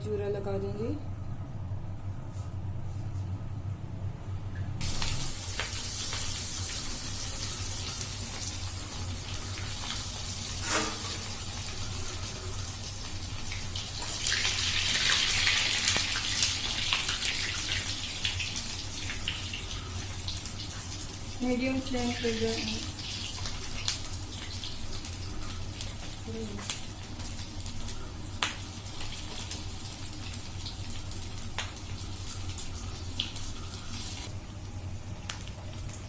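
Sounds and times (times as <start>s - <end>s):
oil sizzling and crackling: 4.8s - 36.0s.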